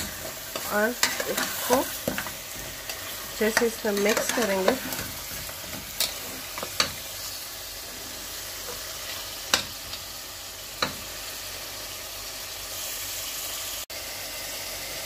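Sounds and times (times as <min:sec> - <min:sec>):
masala sizzling in a pot: 0:00.0 - 0:15.0.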